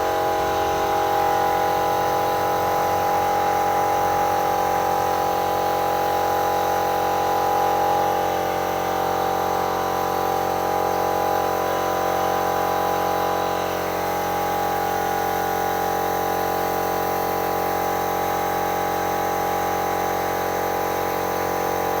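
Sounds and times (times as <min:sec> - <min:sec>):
pressure washer pump humming: 0:00.0 - 0:22.0.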